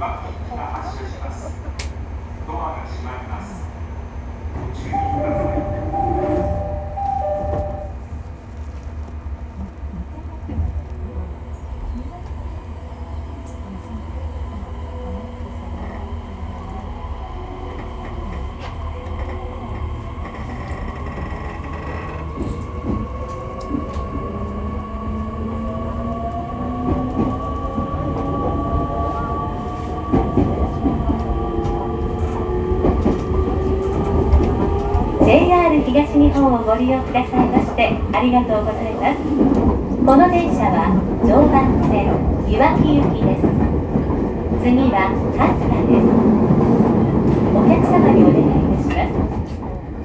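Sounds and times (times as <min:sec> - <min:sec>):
low train rumble: 0:00.0 - 0:50.0.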